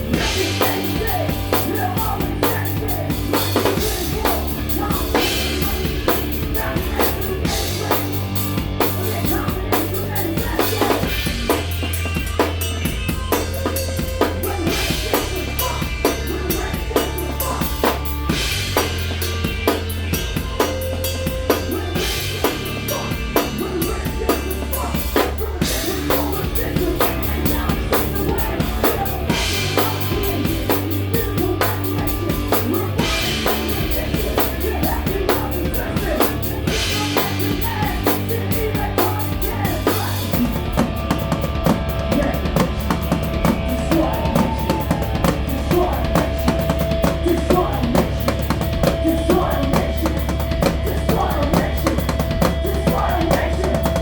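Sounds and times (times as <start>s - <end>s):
bass guitar: 0.0s - 54.0s
distorted guitar: 0.0s - 54.0s
drum kit: 0.0s - 54.0s.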